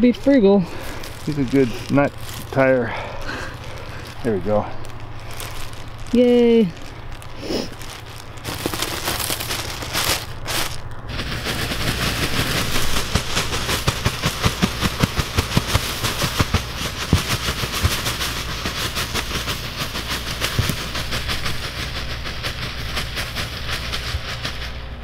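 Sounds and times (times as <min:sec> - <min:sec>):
plastic bag rustling: 0:00.0 - 0:25.0
sawdust pouring from bags: 0:00.0 - 0:25.0.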